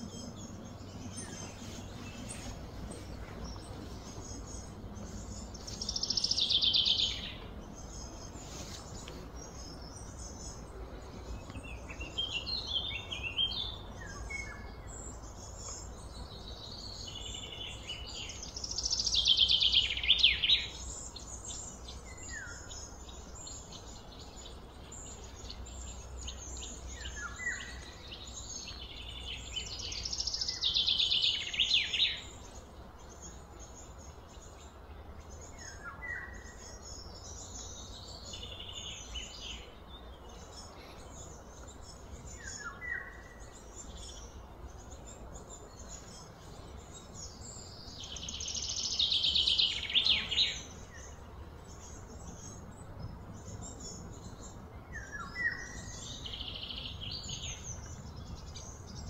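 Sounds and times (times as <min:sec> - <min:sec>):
songbird singing: 0:00.0 - 0:59.0
steady low background noise: 0:00.0 - 0:59.0.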